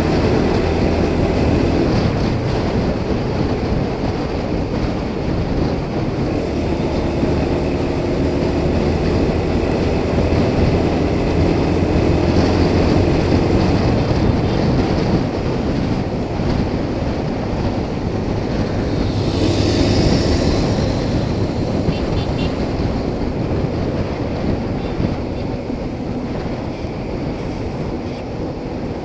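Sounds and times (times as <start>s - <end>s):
motorcycle engine drone: 0.0s - 29.0s
wind rush on microphone: 0.0s - 29.0s.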